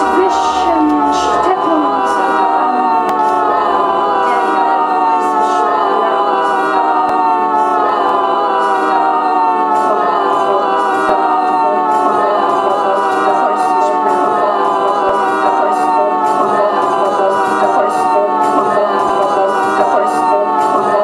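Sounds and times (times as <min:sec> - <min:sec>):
looped choir-like vocal drone: 0:00.0 - 0:21.0.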